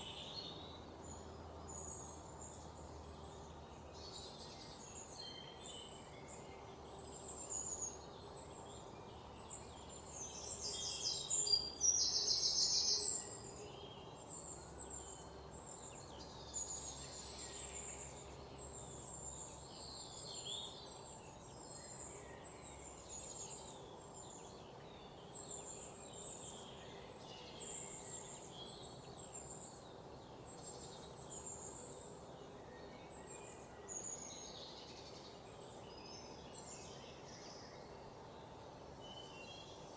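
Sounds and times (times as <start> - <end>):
birds singing and chirping: 0.0 - 39.9
low background hiss: 0.0 - 39.9.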